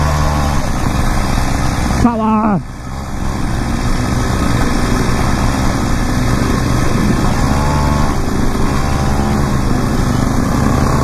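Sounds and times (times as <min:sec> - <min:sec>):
small motorbike engine running: 0:00.0 - 0:11.0.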